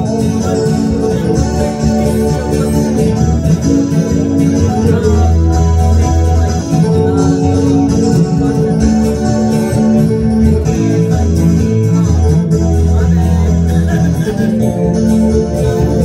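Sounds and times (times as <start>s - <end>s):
acoustic guitar: 0.0s - 16.0s
electronic keyboard chords: 0.0s - 16.0s
steady bass line: 0.0s - 16.0s.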